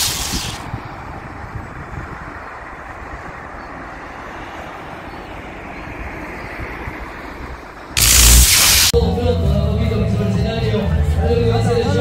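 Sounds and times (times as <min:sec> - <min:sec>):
muffled road traffic: 0:00.0 - 0:12.0.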